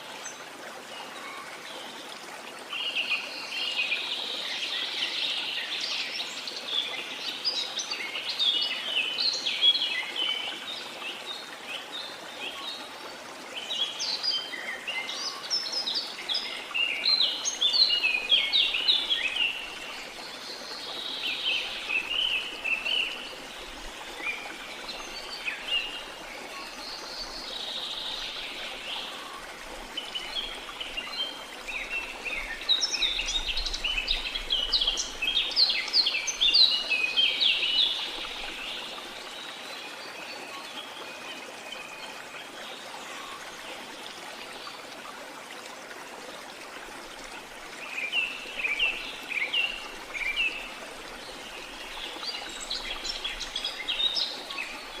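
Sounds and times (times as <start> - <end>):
songbirds chirping: 2.8 - 45.0, 46.2 - 55.0.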